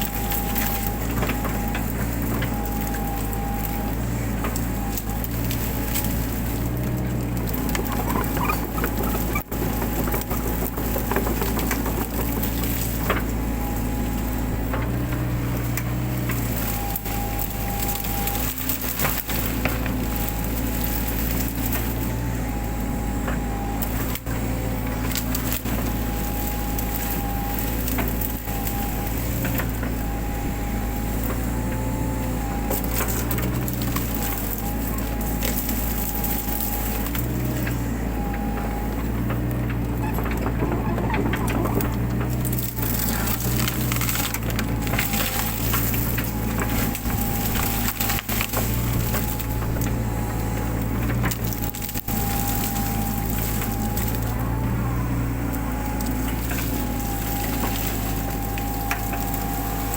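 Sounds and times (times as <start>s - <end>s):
brush cracking and snapping: 0.0s - 59.9s
excavator engine running: 0.0s - 59.9s
hydraulic whine: 0.0s - 59.9s.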